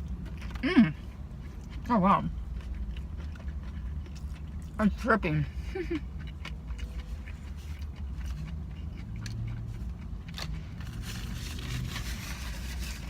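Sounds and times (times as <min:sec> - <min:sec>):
chewing food: 0:00.0 - 0:13.0.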